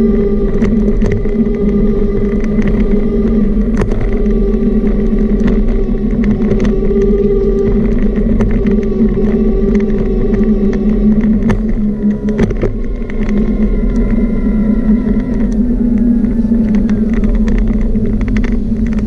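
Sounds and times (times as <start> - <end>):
clicks and rattles from bumps: 0.0 - 19.0
small motor humming and whining: 0.0 - 19.0.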